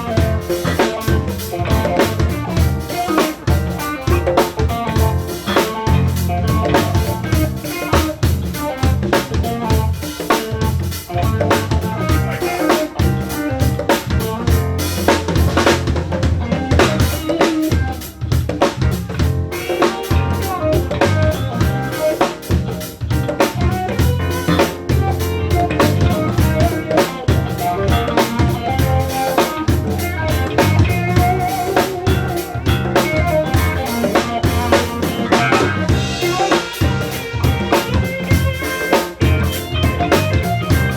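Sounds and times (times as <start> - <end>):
live band playing: 0.0 - 40.9.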